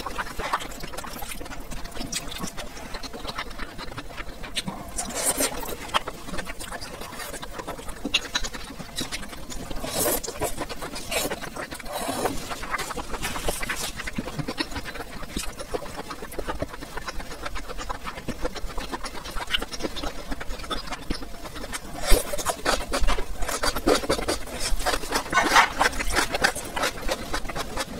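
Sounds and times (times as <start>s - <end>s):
close chewing with wet crunches: 0.0s - 27.9s.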